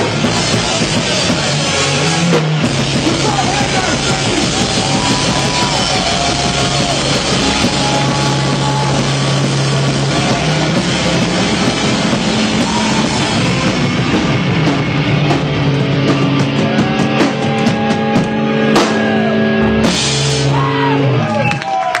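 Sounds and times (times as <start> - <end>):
distorted electric guitars: 0.0 - 21.4
drums: 0.0 - 22.0.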